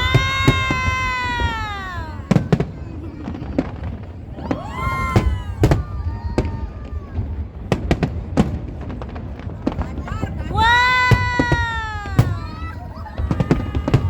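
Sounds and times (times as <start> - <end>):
whistling firework tone: 0.0 - 8.6, 10.6 - 14.0
fireworks bangs and pops: 0.0 - 14.0.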